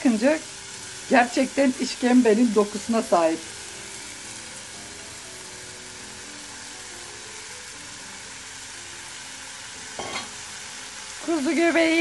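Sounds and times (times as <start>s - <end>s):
mushrooms sizzling in butter: 0.0s - 12.0s.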